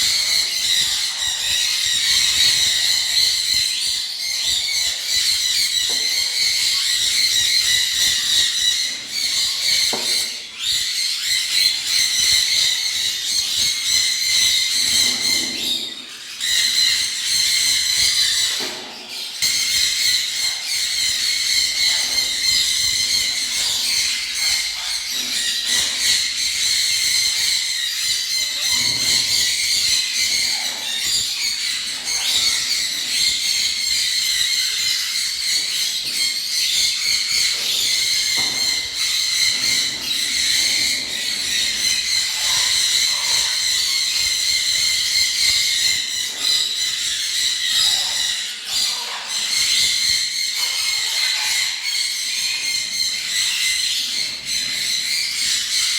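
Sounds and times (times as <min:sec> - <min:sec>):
small birds chattering and chirping: 0:00.0 - 0:55.9.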